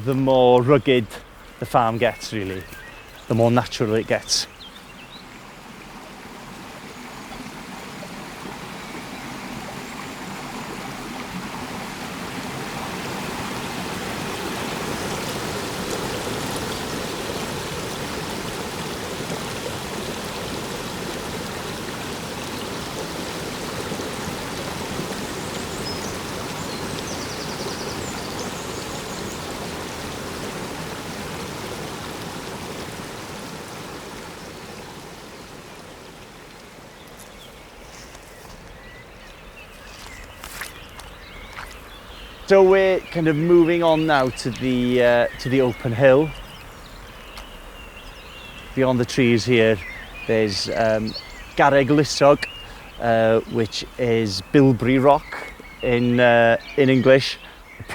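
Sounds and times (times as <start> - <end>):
stream running: 0.0 - 57.9.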